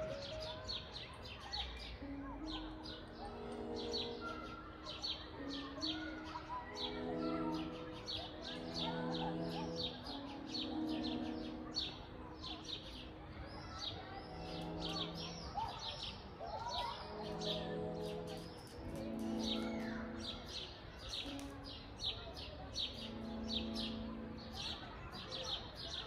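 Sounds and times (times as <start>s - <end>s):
soft music of held chords: 0.0s - 25.1s
small birds chirping: 0.0s - 26.0s.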